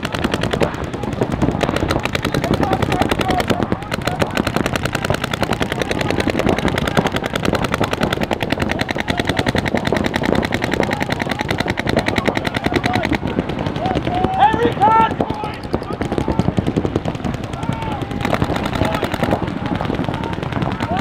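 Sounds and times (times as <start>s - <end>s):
paintball markers firing rapidly: 0.0s - 21.0s.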